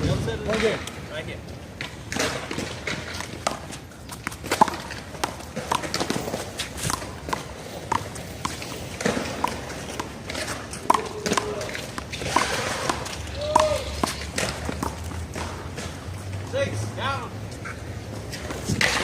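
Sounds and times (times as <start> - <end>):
footsteps on court: 1.4 - 16.8.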